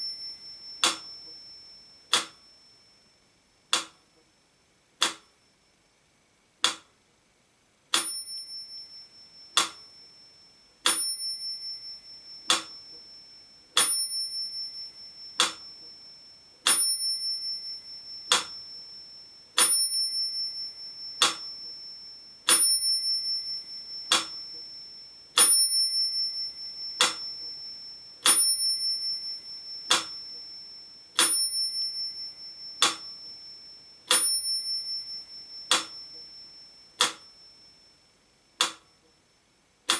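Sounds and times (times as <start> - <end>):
metronome ticking: 0.0 - 2.7, 3.7 - 4.3, 5.0 - 5.5, 6.6 - 7.0, 7.9 - 10.0, 10.8 - 13.2, 13.8 - 37.7, 38.5 - 39.2
metronome bell ringing: 0.0 - 3.2, 8.0 - 39.2.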